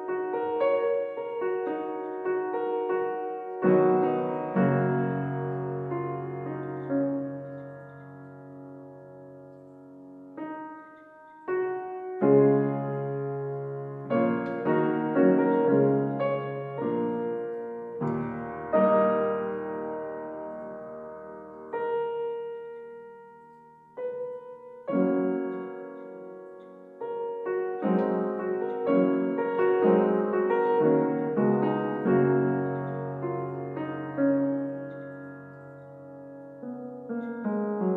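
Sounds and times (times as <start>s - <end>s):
slow solo piano piece: 0.0s - 37.9s.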